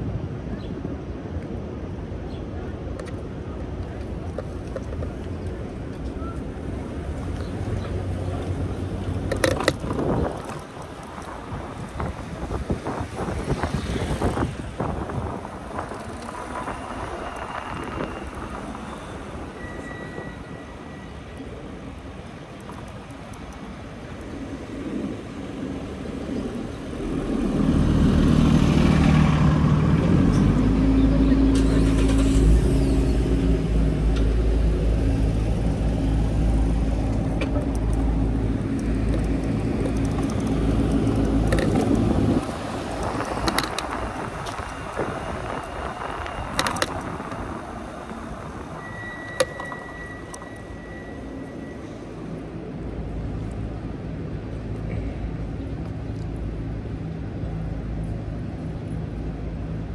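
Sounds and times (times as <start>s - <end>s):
road and wind noise: 0.0s - 59.9s
vehicle engine humming: 0.0s - 59.9s.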